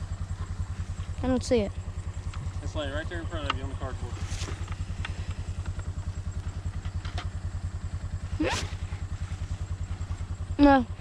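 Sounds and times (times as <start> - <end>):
utility vehicle engine idling: 0.0 - 11.0.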